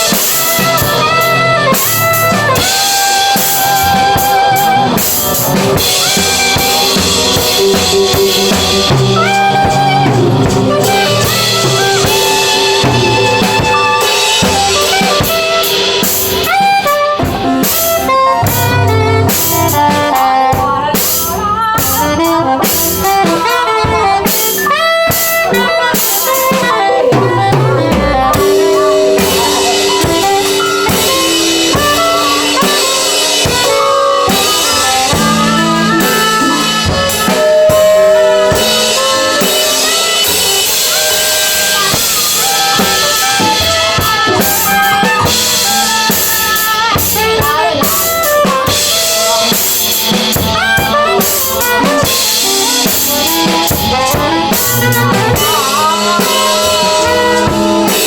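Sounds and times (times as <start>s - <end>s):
drum kit playing: 0.0s - 58.0s
live band music: 0.0s - 58.0s.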